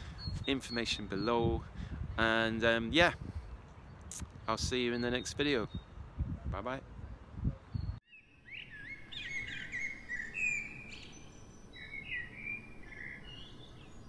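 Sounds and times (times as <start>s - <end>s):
songbirds singing: 0.0s - 6.2s, 7.6s - 14.0s.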